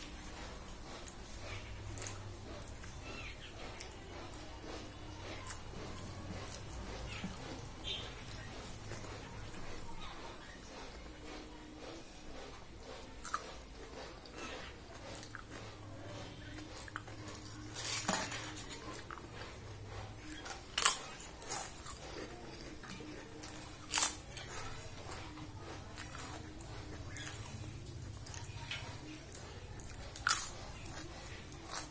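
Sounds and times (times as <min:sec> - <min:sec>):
chewing with loud crunches: 0:00.0 - 0:31.9.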